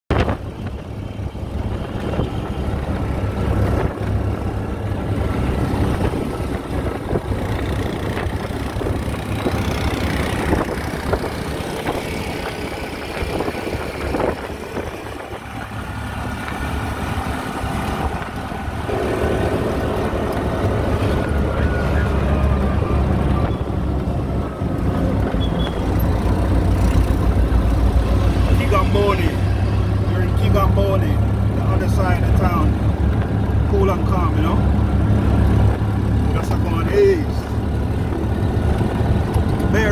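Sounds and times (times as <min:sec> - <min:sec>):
auto-rickshaw engine rumbling: 0:00.1 - 0:39.9
road noise: 0:00.1 - 0:39.9.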